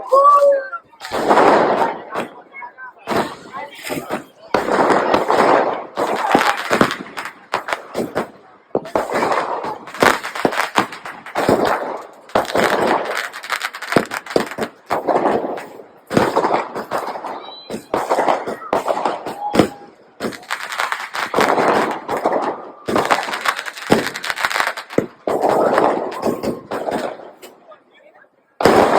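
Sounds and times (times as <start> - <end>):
firecrackers and fireworks bursting: 0.0 - 28.9.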